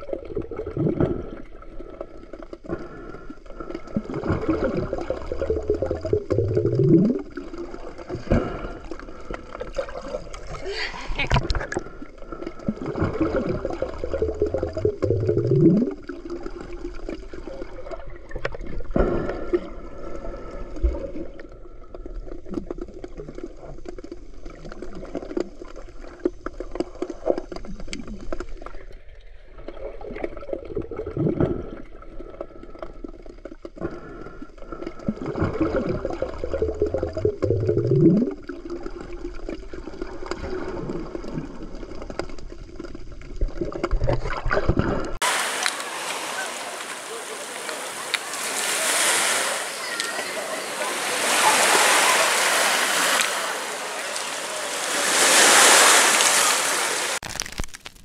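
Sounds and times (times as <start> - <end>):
underwater water sloshing and gurgling: 0.0 - 57.6.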